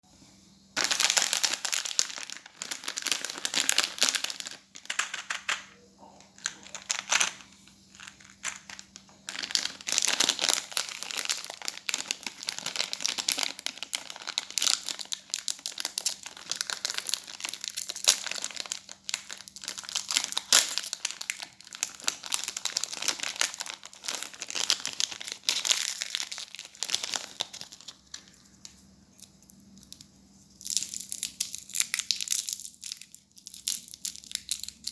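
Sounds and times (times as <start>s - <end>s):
faint steady hum: 0.0s - 34.9s
plastic wrappers crinkling: 0.8s - 34.9s.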